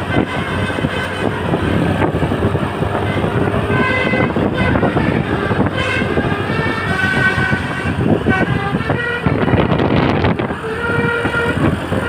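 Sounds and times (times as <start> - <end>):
bus air horn playing melody: 0.0 - 12.0
bus engine: 0.0 - 12.0
road rumble: 0.0 - 12.0.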